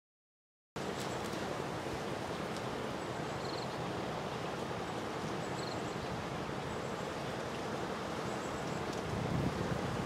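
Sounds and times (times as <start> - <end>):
outdoor background hiss: 0.8 - 10.0.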